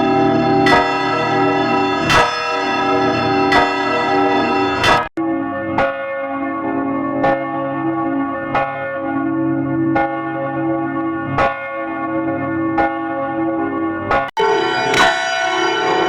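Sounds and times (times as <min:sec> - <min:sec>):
church bell tolling: 0:00.0 - 0:16.0.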